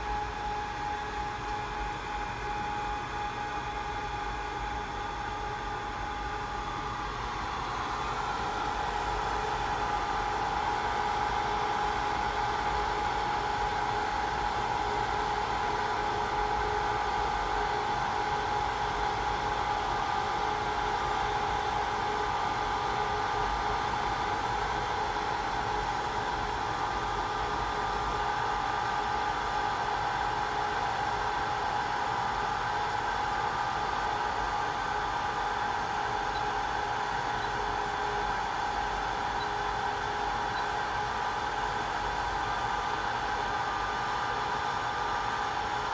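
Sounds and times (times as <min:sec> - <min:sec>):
constant hum tone: 0:00.0 - 0:45.9.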